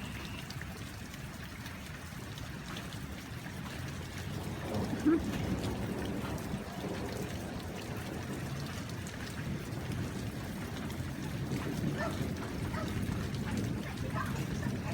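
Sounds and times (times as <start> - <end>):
raindrop ticks: 0.0 - 14.9
steady rain falling: 0.0 - 14.9.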